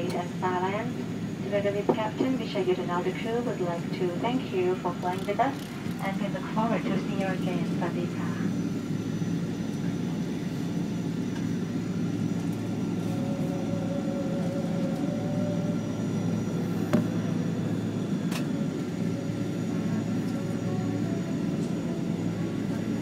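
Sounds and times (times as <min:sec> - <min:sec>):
jet engines idling hum: 0:00.0 - 0:23.0.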